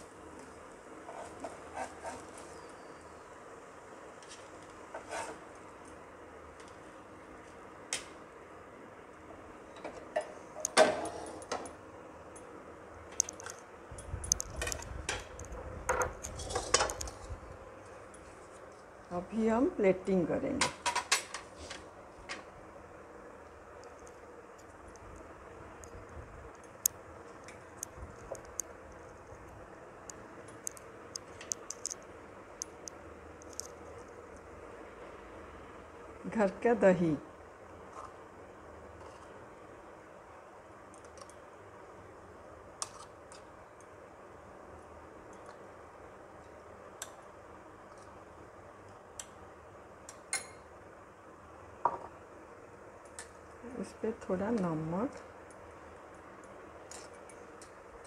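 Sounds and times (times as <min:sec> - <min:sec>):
faint room hum: 0:00.0 - 0:58.0.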